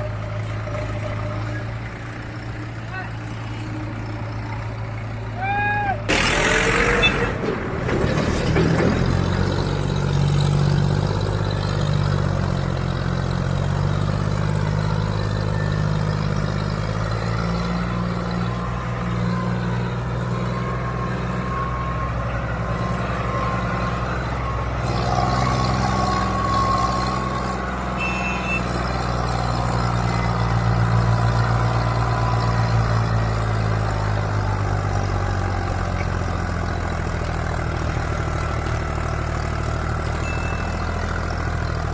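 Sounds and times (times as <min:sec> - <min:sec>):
tractor diesel engines under load: 0:00.0 - 0:41.9.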